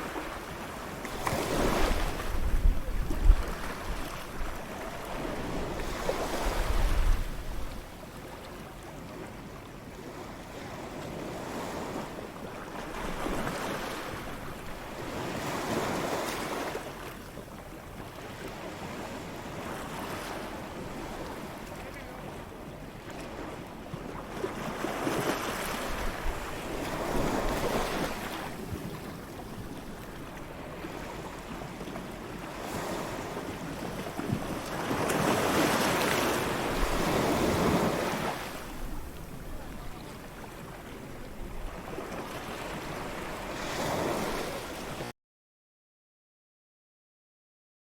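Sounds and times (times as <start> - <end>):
waves breaking on a beach: 0.0 - 45.1.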